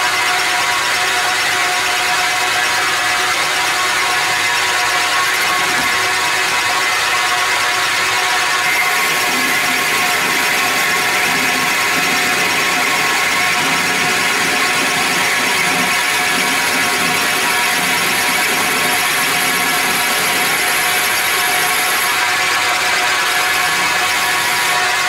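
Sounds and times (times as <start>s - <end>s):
metal lathe turning cut: 0.0s - 25.0s.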